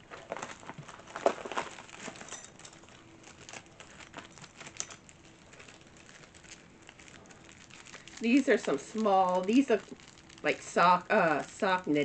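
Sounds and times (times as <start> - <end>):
plastic packaging rustling: 0.0 - 12.0.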